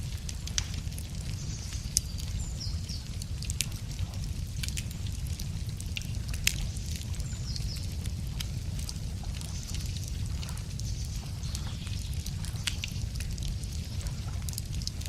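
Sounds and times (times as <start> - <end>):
campfire crackling and popping: 0.0 - 15.0
low rumble of fire: 0.0 - 15.0.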